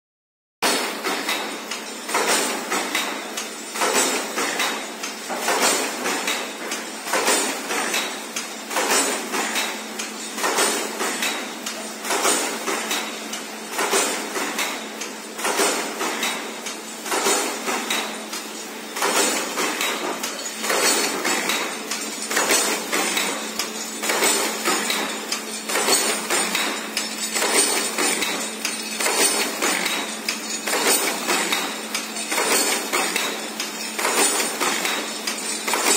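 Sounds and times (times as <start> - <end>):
sharp metallic clank: 0.6 - 35.9.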